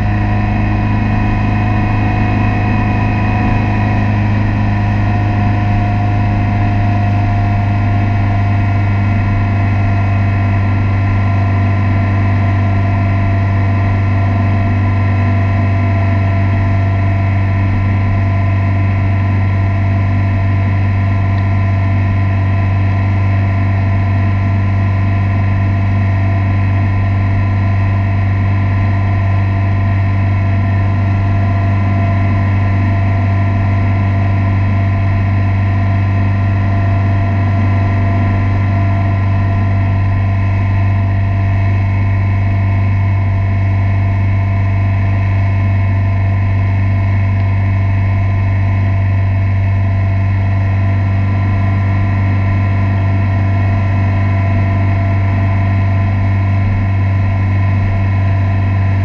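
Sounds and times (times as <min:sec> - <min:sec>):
motorboat engine drone: 0:00.0 - 0:59.0.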